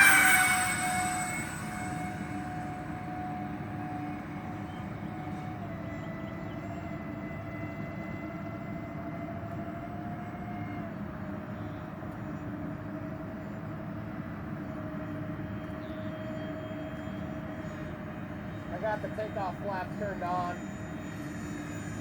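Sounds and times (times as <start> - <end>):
electric fans whining: 0.0 - 22.0.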